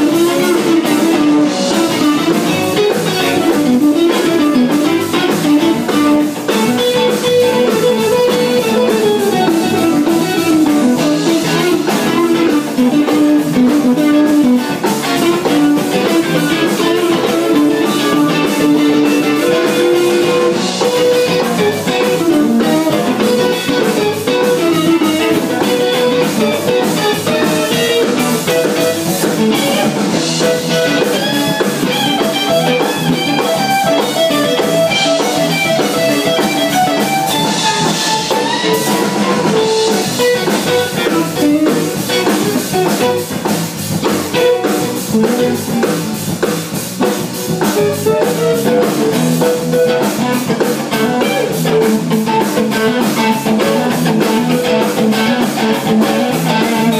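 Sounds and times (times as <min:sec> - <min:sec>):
drum kit: 0:00.0 - 0:56.9
guitar melody: 0:00.0 - 0:56.9.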